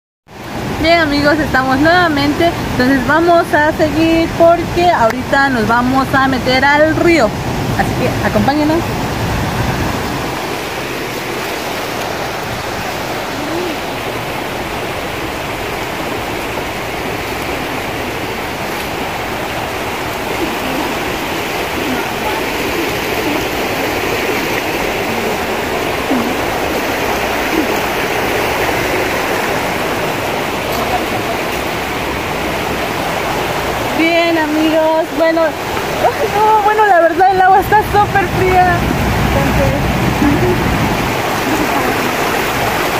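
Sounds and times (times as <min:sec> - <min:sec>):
water rushing over rocks: 0:00.3 - 0:42.9.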